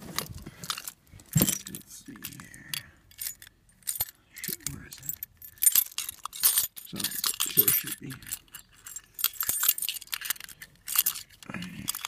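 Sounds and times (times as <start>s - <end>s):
keys jangling: 0.6s - 12.0s.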